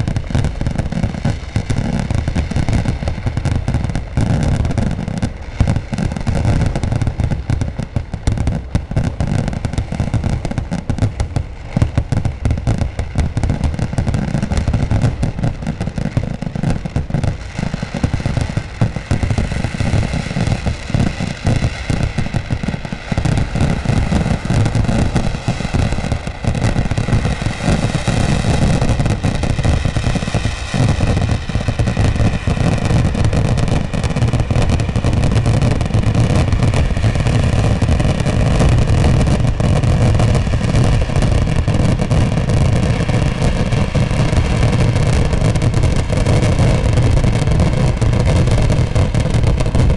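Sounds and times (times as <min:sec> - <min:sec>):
firecracker barrage: 0:00.0 - 0:49.9.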